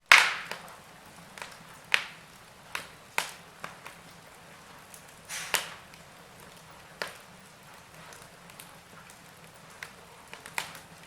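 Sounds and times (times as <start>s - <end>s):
faint steady hiss: 0.0s - 11.0s
fire popping: 0.0s - 11.0s
wood fire crackling: 0.0s - 11.0s.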